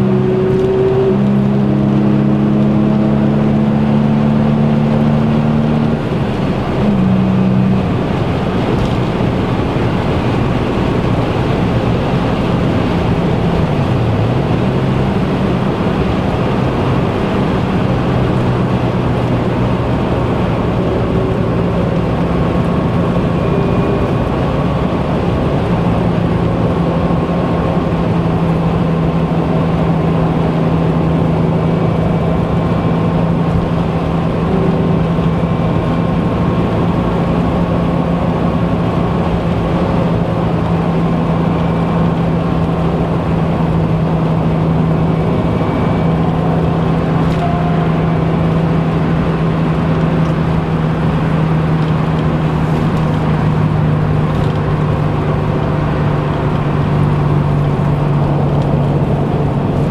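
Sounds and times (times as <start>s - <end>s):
car engine: 0.0s - 59.9s.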